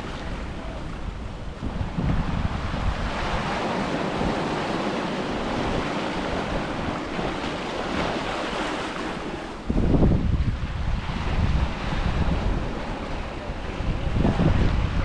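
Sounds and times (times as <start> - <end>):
waves breaking on a beach: 0.0 - 15.0
wind buffeting microphone: 0.0 - 15.0.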